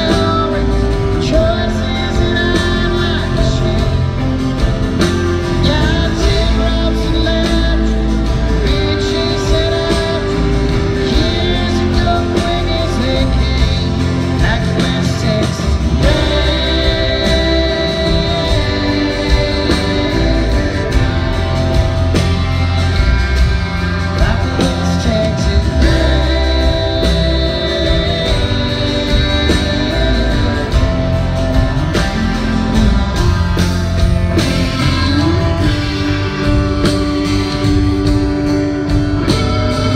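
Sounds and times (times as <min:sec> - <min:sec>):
live country band playing: 0:00.0 - 0:39.9
man singing: 0:00.0 - 0:39.9.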